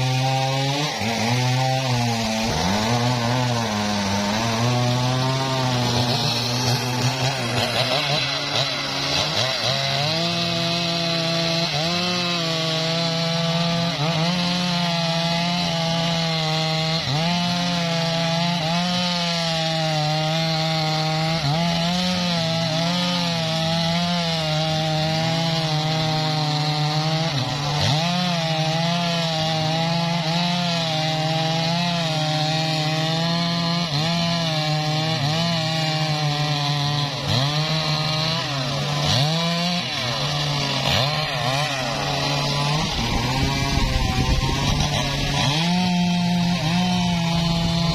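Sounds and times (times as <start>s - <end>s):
chainsaw cutting log: 0.0s - 47.9s.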